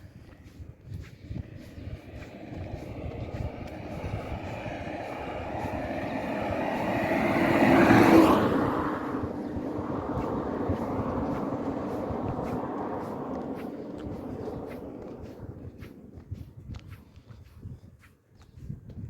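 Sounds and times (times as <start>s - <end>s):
vehicle passing on road: 0.0s - 18.1s.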